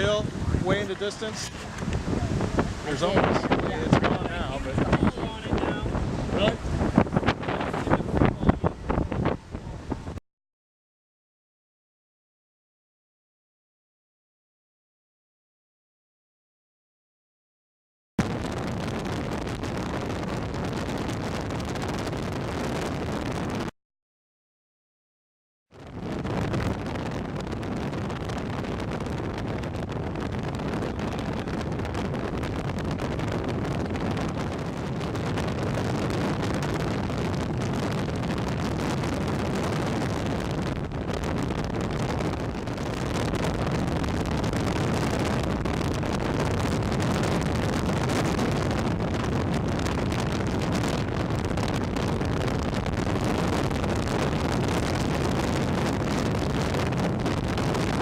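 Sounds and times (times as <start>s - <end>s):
wind buffeting microphone: 0.0s - 10.2s, 18.2s - 23.7s, 25.8s - 58.0s.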